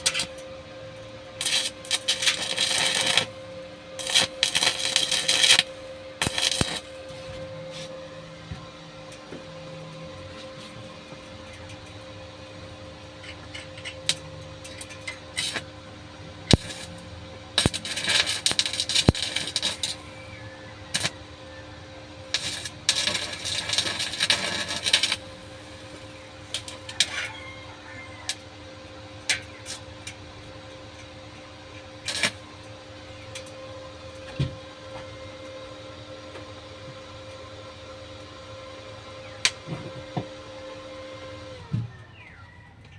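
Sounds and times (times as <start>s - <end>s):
arc welding crackling: 0.0s - 41.5s
steady hum: 0.0s - 42.0s.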